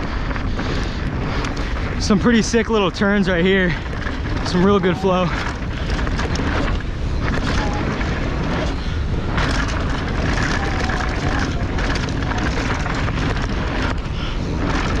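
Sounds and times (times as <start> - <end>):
bike rattling over bumps: 0.0 - 15.0
tyres rolling on dirt: 0.0 - 15.0
wind rushing over microphone: 0.0 - 15.0.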